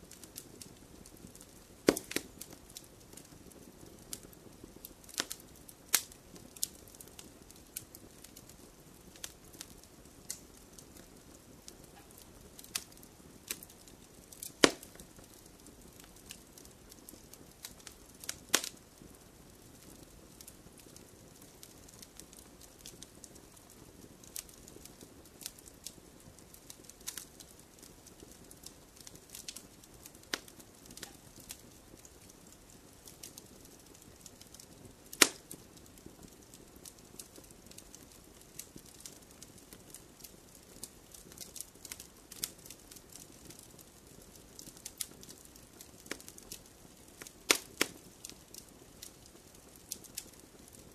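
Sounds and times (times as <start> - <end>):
loud sharp pops of fire: 0.0 - 50.9
wood fire crackling: 0.0 - 50.9.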